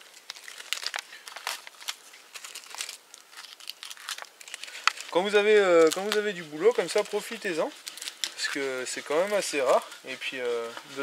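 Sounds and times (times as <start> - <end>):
bark tearing and crackling: 0.0 - 10.8.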